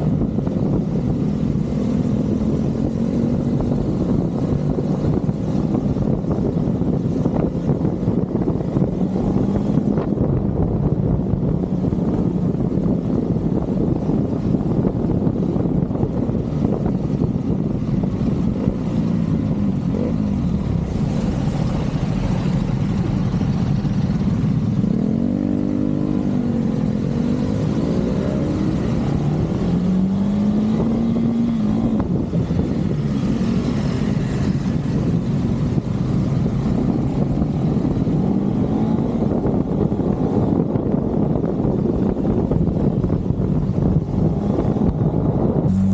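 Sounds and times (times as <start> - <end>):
motorcycle engine revving: 0.0 - 45.9
wind rushing: 0.0 - 45.9.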